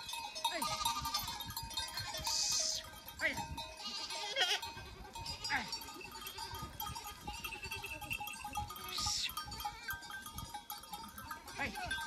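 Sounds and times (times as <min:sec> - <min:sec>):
sheep and goats bleating: 0:00.0 - 0:12.0.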